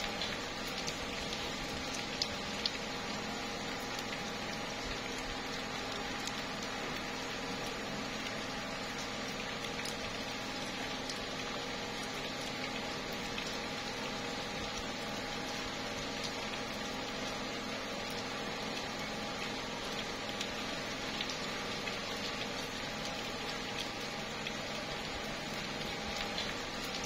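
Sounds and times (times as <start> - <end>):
rain falling on leaves: 0.0 - 27.0.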